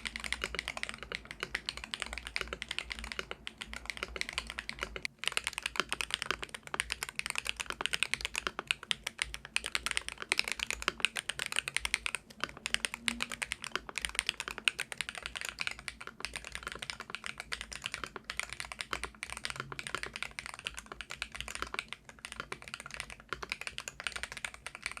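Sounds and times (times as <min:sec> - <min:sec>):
fast typing on keyboard: 0:00.0 - 0:25.0.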